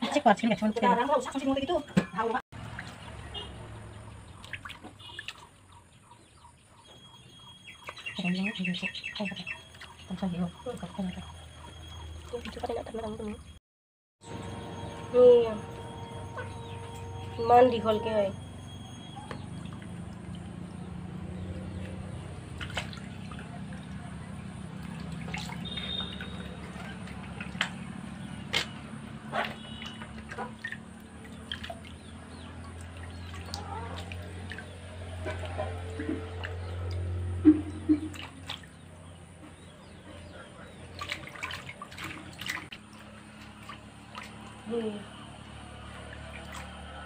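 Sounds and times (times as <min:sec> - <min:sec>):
water splashing and dripping: 0:00.5 - 0:13.5, 0:17.8 - 0:47.0.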